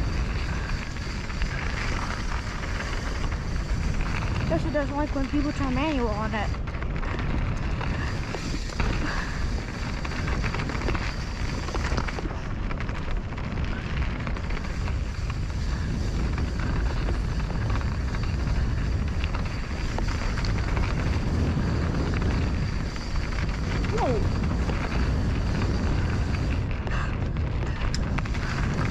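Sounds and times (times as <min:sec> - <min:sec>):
bike tyres rattling and knocking: 0:00.0 - 0:28.9
low rumble: 0:00.0 - 0:28.9
wind rush on microphone: 0:00.0 - 0:28.9.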